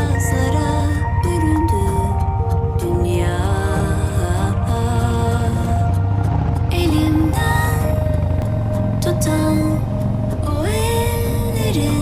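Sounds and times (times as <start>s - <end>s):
steady low rumble: 0.0s - 12.0s
sustained melodic music: 0.0s - 12.0s.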